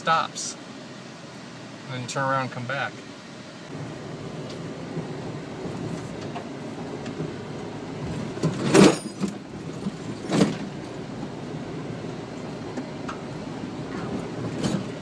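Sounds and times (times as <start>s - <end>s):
off-road vehicle rumbling: 0.0s - 15.0s.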